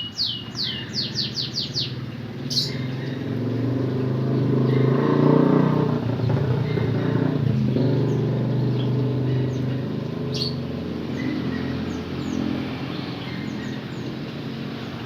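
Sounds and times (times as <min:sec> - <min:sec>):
vehicle engine running: 0:00.2 - 0:15.0.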